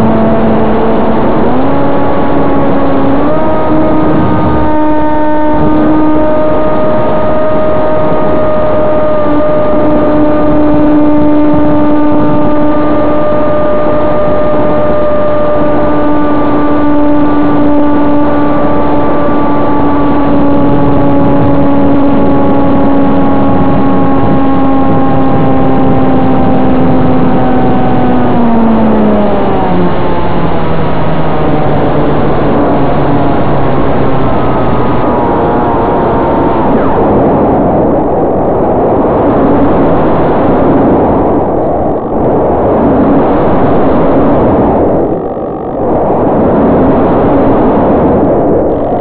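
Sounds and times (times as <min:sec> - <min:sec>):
electric motor whine: 0:00.0 - 0:37.5, 0:42.0 - 0:47.6.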